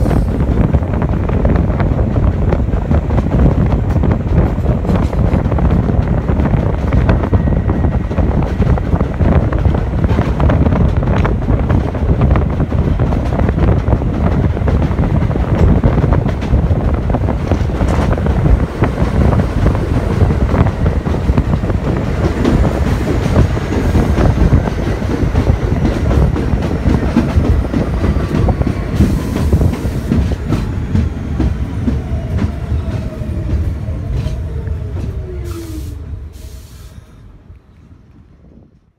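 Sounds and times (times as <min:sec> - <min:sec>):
train rumbling on elevated track: 0:00.0 - 0:38.9.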